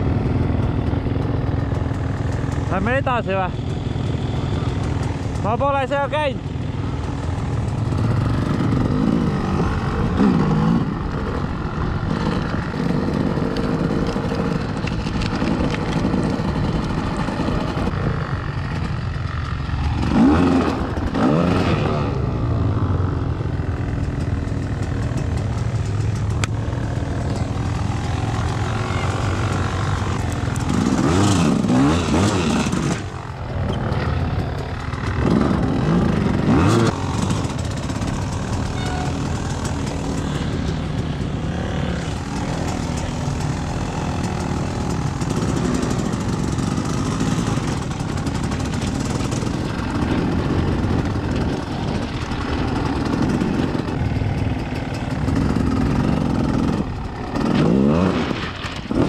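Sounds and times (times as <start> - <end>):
off-road vehicle engine revving: 7.4 - 18.1, 19.8 - 23.0, 24.7 - 59.0.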